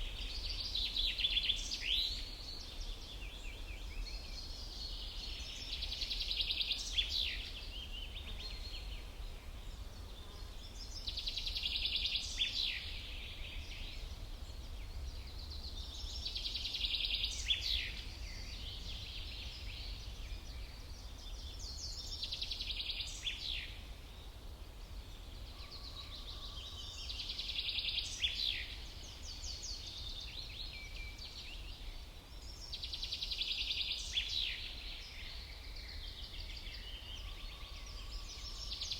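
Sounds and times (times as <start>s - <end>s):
songbird chirping song: 0.0s - 38.9s.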